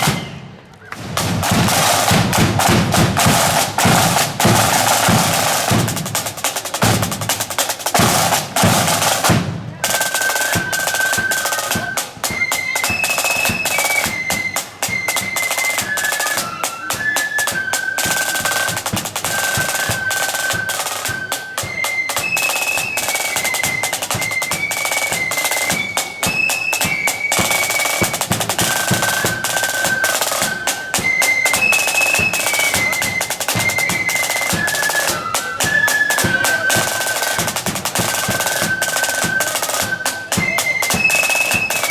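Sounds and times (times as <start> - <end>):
flutes playing high melody: 0.0 - 0.6, 1.2 - 41.9
snare and bass drums: 0.0 - 41.9.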